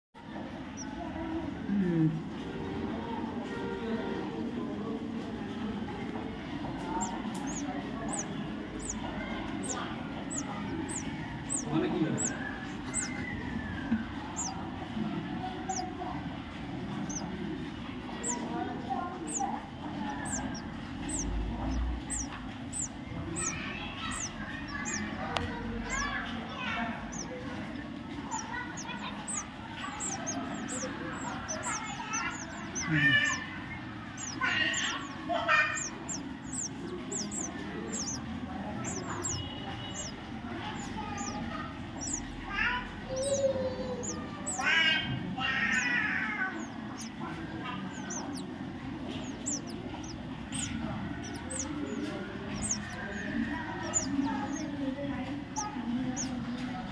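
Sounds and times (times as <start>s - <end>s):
nestlings begging chirps: 0.2s - 56.9s.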